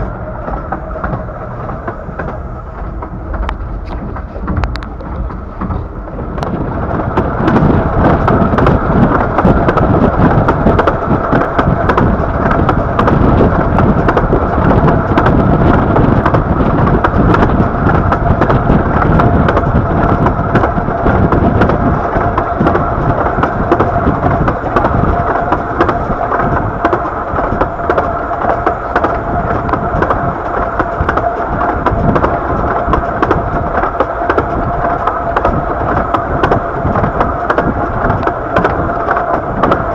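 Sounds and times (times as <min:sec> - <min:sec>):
train wheels rumbling on rails: 0:00.0 - 0:39.9
wind buffeting microphone: 0:00.0 - 0:39.9.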